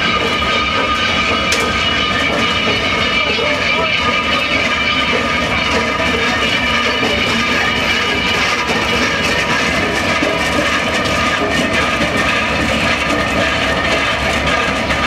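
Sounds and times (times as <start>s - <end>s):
diesel engines running: 0.0s - 15.0s
steady whining tones: 0.0s - 15.0s.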